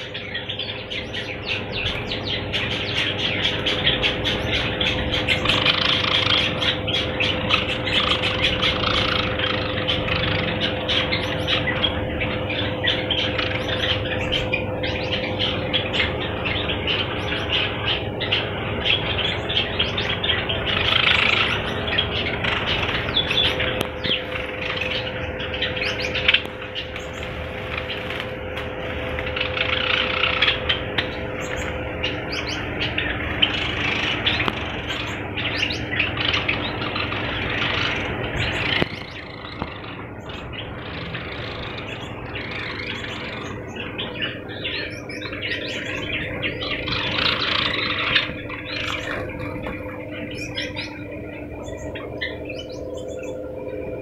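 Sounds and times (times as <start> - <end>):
finches chirping: 0.0 - 54.0
steady hum: 0.0 - 54.0.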